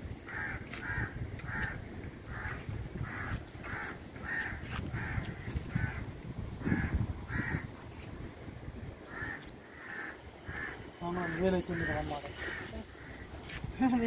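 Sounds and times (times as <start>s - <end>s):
crow cawing: 0.3s - 7.7s, 9.0s - 13.6s.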